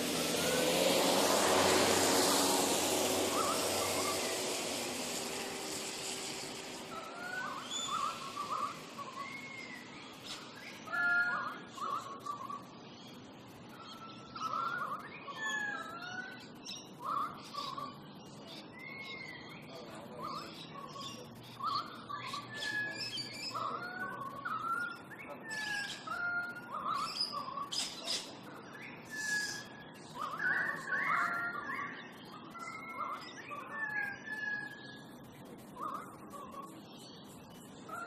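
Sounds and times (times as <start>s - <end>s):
birds chirping and whistling: 0.4s - 38.0s.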